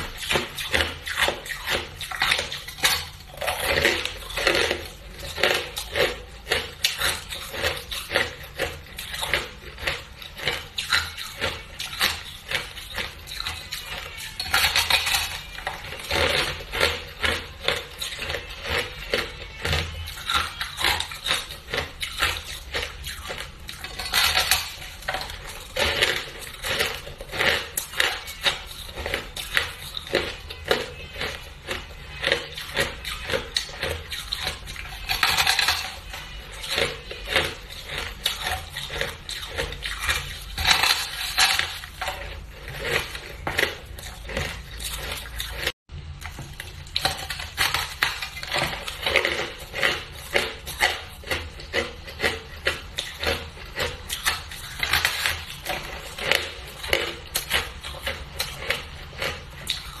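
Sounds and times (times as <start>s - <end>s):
chewing crunchy ice: 0.0s - 60.0s.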